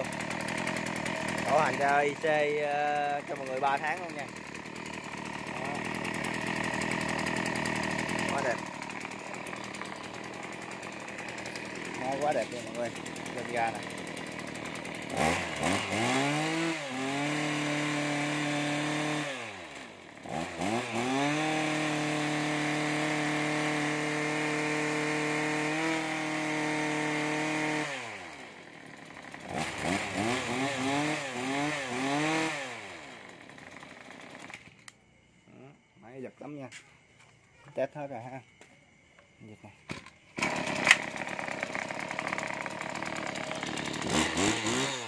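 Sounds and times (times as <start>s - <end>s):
brush cutter engine revving: 0.0s - 35.0s, 40.4s - 45.0s.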